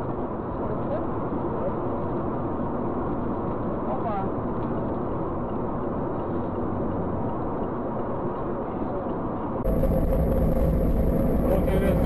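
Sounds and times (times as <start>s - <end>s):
car cabin road and engine noise: 0.0s - 12.0s
car driving rumble: 0.0s - 12.0s.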